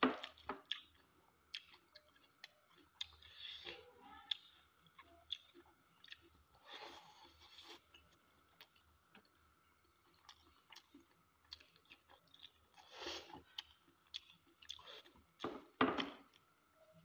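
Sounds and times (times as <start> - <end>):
wet chewing and mouth clicks: 0.1 - 9.4, 10.0 - 16.5.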